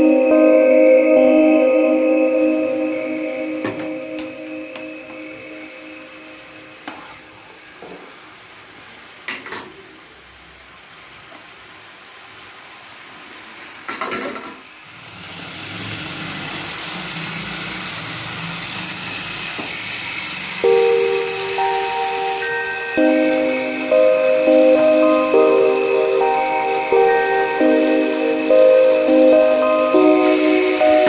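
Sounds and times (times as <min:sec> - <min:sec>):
hot oil sizzling: 0:02.1 - 0:31.0.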